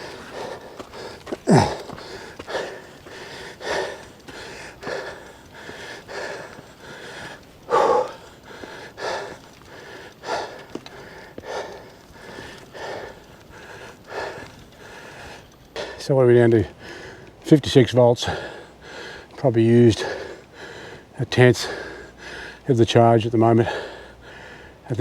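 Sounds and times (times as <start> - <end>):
man breathing hard: 0.0 - 17.4, 18.2 - 22.8, 23.5 - 25.0.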